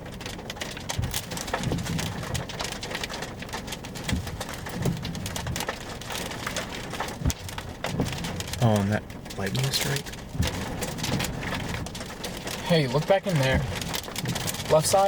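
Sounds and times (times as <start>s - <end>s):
rain on car roof: 0.0s - 15.0s.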